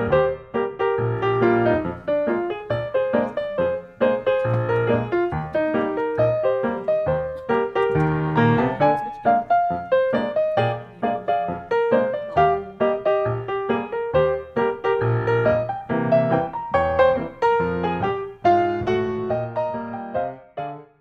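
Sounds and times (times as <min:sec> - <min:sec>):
background piano music: 0:00.0 - 0:21.0.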